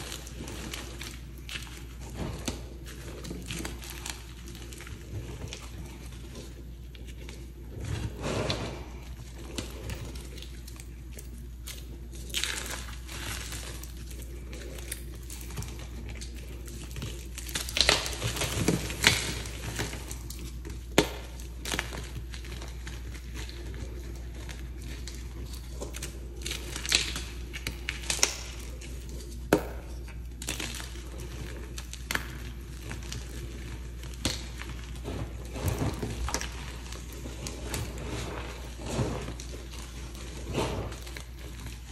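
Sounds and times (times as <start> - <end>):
chalk blocks crackling in hands: 0.0 - 41.9.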